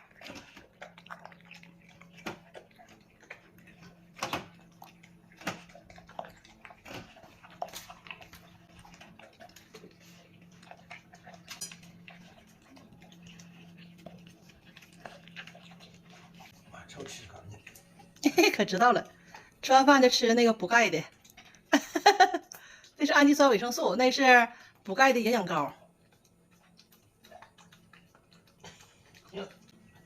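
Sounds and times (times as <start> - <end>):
dog chewing food: 0.0 - 30.0.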